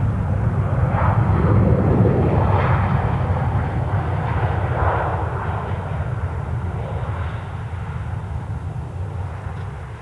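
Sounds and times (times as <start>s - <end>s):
airliner engines rumbling: 0.0s - 10.0s.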